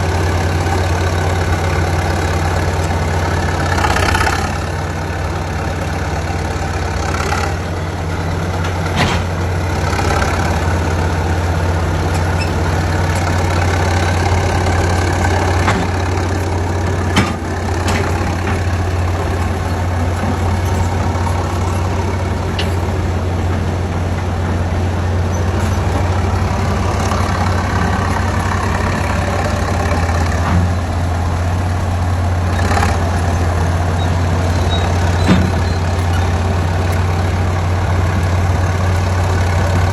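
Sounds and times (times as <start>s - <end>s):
track loader engine running: 0.0s - 39.9s.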